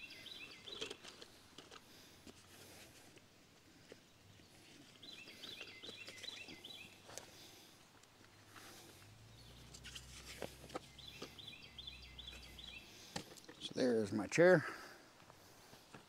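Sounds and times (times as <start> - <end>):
songbird chirping: 0.0 - 2.0, 3.6 - 15.9
faint outdoor background noise: 0.0 - 16.0.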